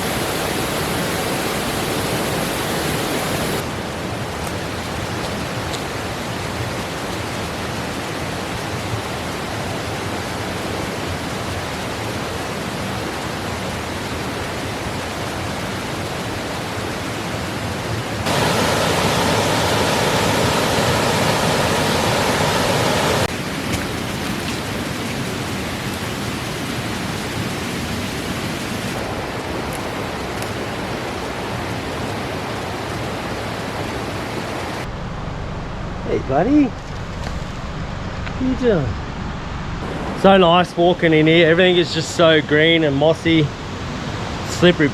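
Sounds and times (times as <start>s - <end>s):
stream rushing over rocks: 0.0s - 34.9s, 39.8s - 44.9s.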